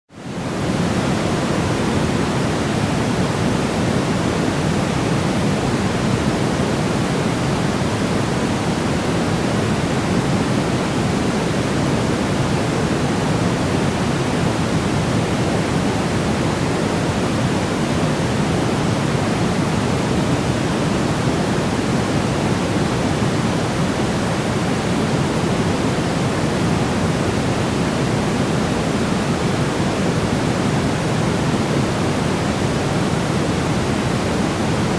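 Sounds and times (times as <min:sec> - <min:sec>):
white noise hiss: 0:00.2 - 0:34.9.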